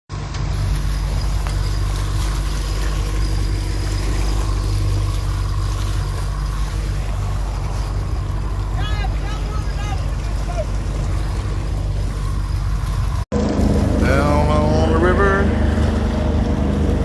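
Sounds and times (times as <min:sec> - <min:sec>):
boat motor droning: 0:00.1 - 0:17.0.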